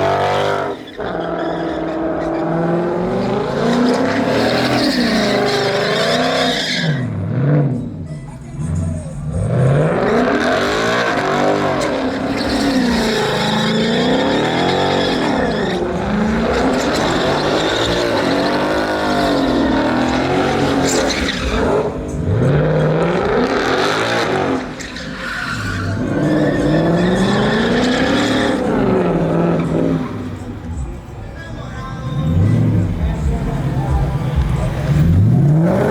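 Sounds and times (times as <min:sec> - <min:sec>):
truck engine revving: 0:00.0 - 0:31.1, 0:32.1 - 0:35.9
tyres squealing: 0:00.0 - 0:35.9.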